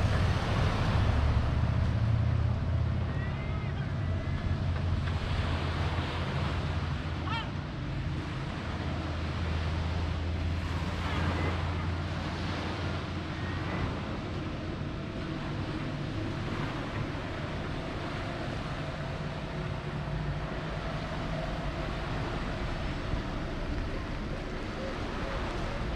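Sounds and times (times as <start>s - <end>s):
road traffic hum: 0.0s - 25.9s
surf: 0.0s - 25.9s
wind noise on microphone: 0.0s - 25.9s.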